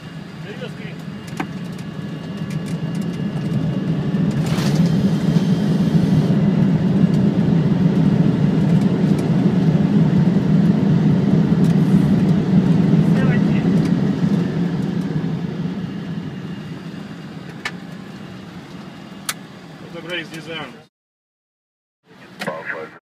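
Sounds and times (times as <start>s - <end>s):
low rumble of landing aircraft: 0.0s - 20.9s, 22.1s - 23.0s.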